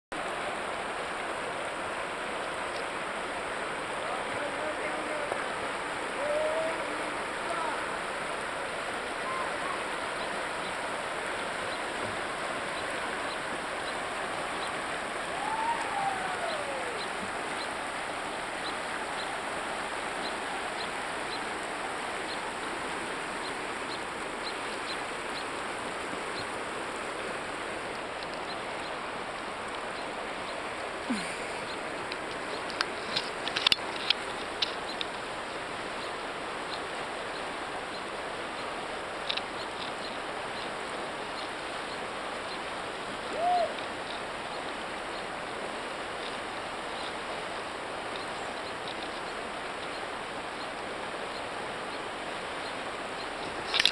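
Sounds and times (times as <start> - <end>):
river water rushing: 0.1 - 53.9.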